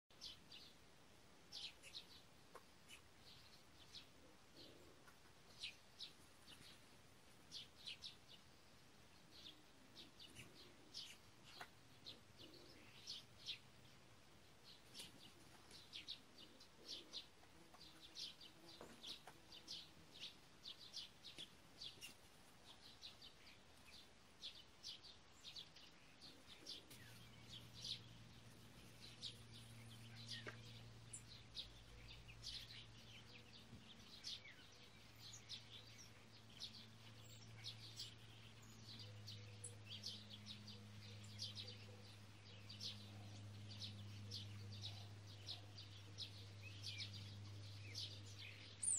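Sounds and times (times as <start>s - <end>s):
small birds chirping: 0.1s - 48.9s.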